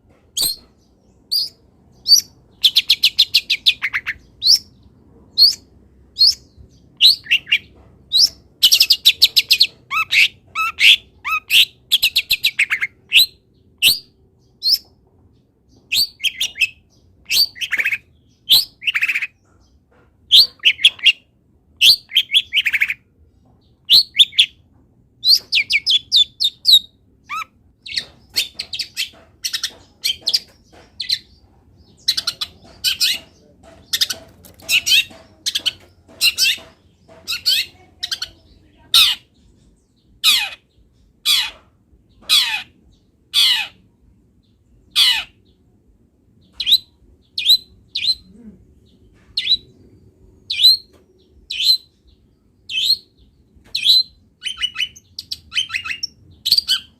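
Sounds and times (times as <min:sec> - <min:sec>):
bird chirping and trilling: 0:00.4 - 0:14.9, 0:15.7 - 0:23.1, 0:23.8 - 0:24.6, 0:25.2 - 0:43.9, 0:44.8 - 0:45.5, 0:46.4 - 0:56.9.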